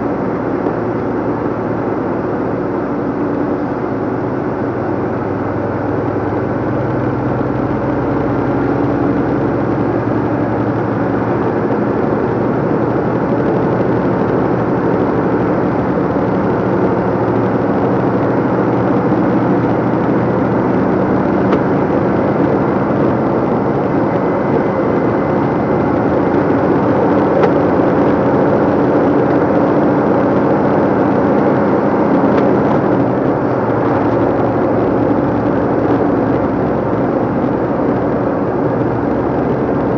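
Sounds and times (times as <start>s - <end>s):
lorry diesel engine pulling: 0.0s - 39.9s
tyre and road rumble: 0.0s - 39.9s.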